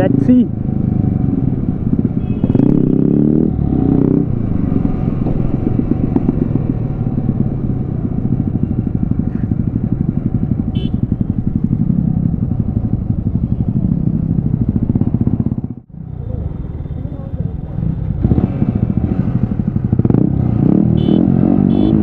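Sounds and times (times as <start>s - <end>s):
motorcycle engines racing: 0.0s - 22.0s.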